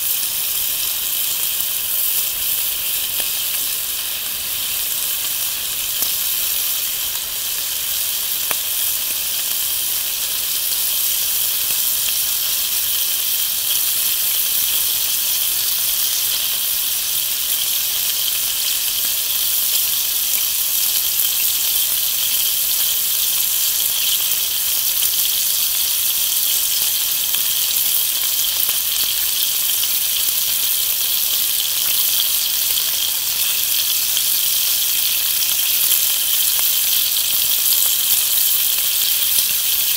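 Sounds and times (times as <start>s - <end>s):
bacon sizzling: 0.0s - 39.9s.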